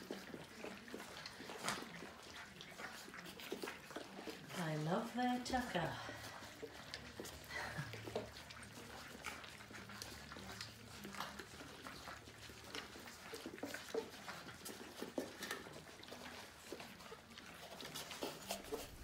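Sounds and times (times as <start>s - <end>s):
puppies chewing kibble: 0.0s - 19.0s.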